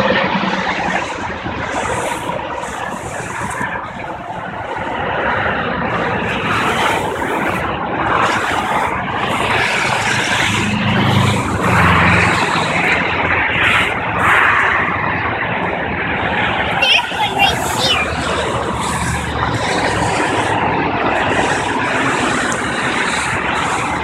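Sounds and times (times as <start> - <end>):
highway traffic rushing by: 0.0 - 24.0
low drone: 0.0 - 24.0.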